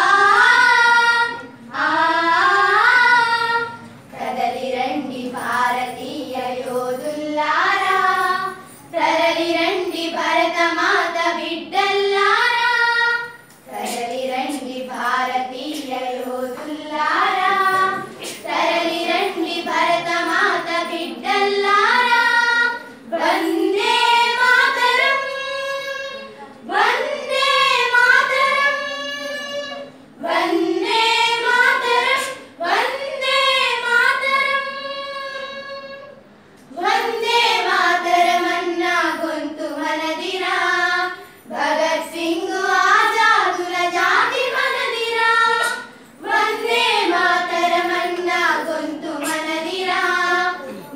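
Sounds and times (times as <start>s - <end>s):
children singing: 0.0s - 50.9s.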